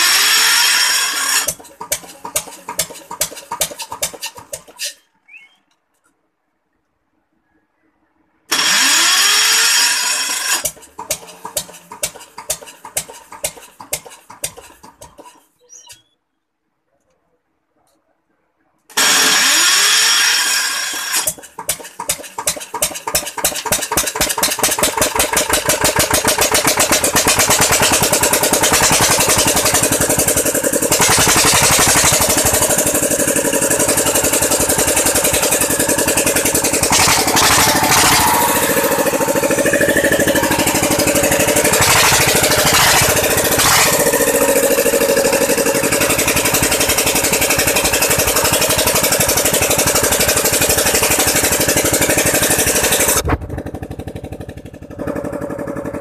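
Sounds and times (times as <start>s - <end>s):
diesel engine cranking and running: 0.0s - 5.0s, 8.5s - 15.6s, 18.9s - 56.0s.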